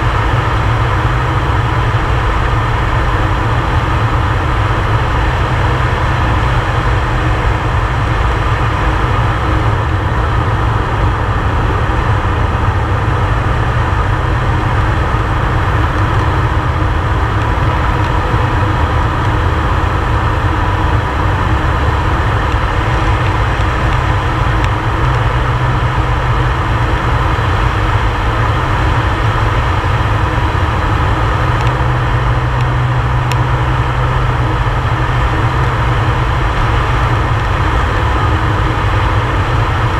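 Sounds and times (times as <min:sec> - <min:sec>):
low hum: 0:00.0 - 0:39.9
propeller plane droning in flight: 0:00.0 - 0:39.9.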